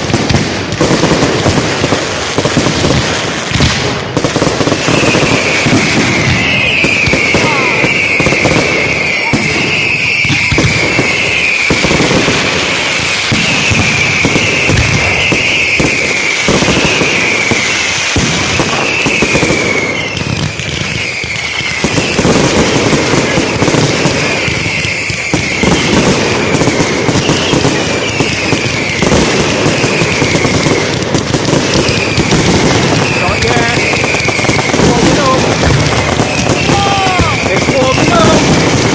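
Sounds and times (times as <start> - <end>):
fireworks crackling and banging: 0.0 - 38.9
fireworks high whistling: 0.0 - 38.9.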